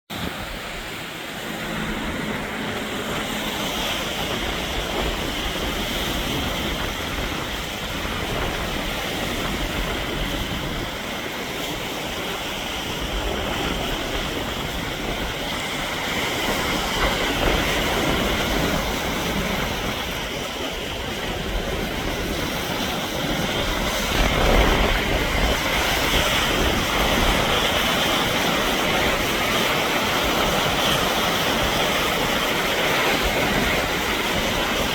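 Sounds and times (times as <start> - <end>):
strong wind: 0.1 - 34.9
waves breaking on shore: 0.1 - 34.9.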